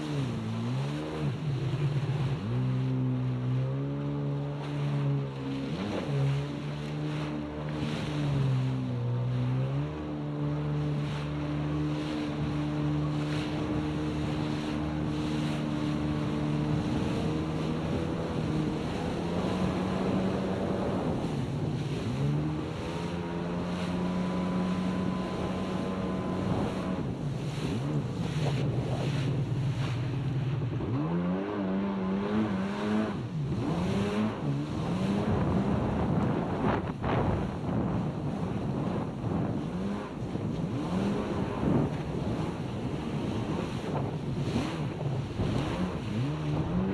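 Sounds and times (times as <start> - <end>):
jet ski engine running: 0.0 - 46.9
water rushing past hull: 0.0 - 46.9
wind on microphone: 0.0 - 46.9.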